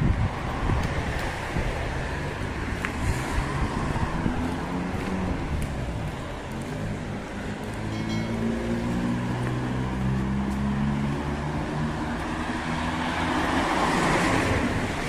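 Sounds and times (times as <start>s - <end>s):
cars driving on wet road: 0.0s - 15.0s.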